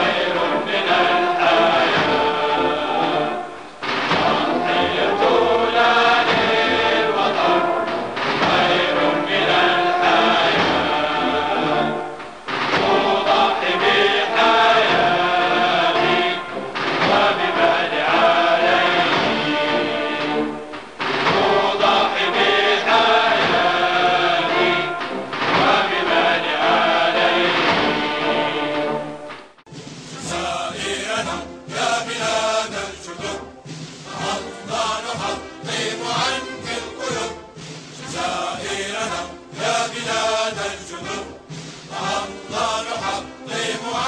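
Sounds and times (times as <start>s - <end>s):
choir singing with accompaniment: 0.0s - 44.0s.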